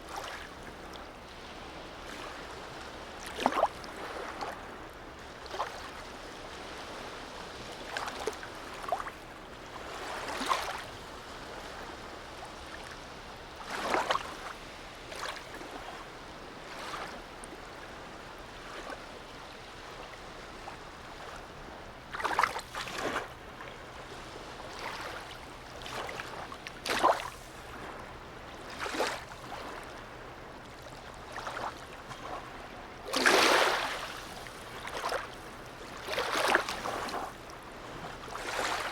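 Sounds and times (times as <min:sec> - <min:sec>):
small waves lapping and splashing: 0:00.0 - 0:38.9.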